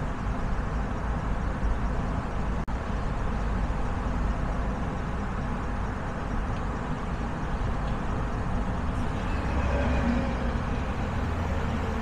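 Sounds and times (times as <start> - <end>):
car driving on street: 0.0 - 12.0.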